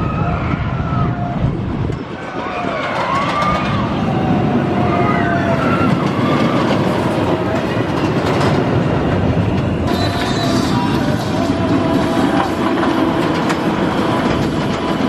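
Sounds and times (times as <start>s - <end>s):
roller coaster wheels rumbling: 0.0s - 15.0s.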